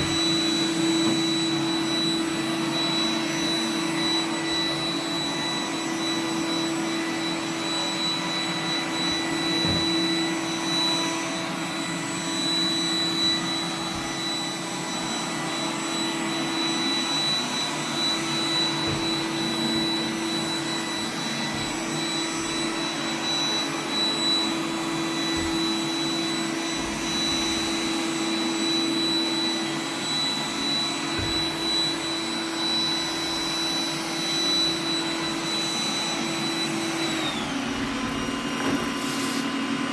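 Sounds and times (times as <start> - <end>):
robot vacuum humming and whining: 0.0 - 39.9.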